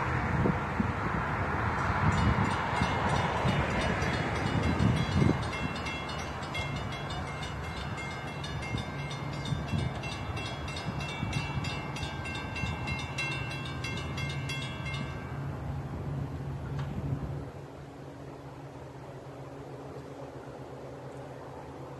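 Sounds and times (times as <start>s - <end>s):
diesel train engine drone: 0.0s - 21.9s
rail noise: 0.0s - 21.9s.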